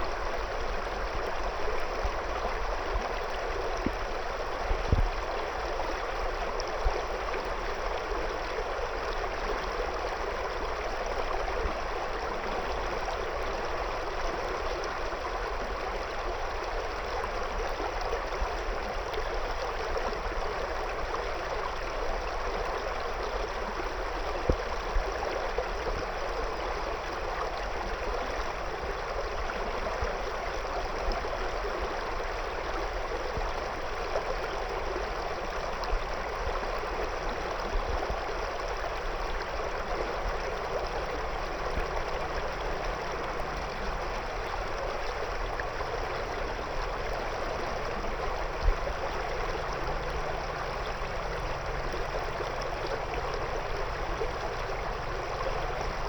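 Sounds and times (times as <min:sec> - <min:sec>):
river water flowing over stones: 0:00.0 - 0:56.0.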